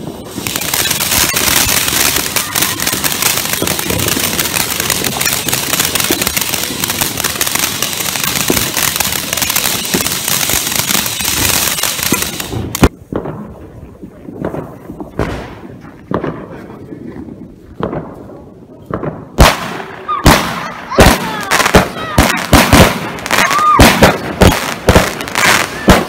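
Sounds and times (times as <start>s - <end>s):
firework fountain hissing and crackling: 0.0s - 26.0s.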